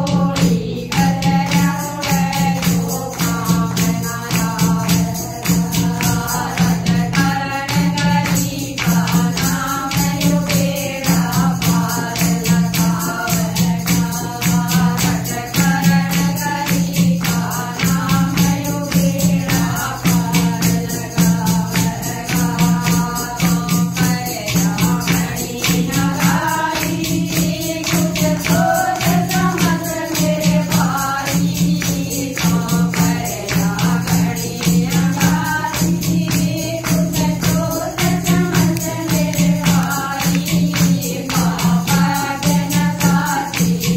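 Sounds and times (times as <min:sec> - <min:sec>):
clay pot drum: 0:00.0 - 0:43.9
hand-clapping: 0:00.0 - 0:43.9
jingling percussion: 0:00.0 - 0:43.9
women singing together: 0:00.0 - 0:43.9.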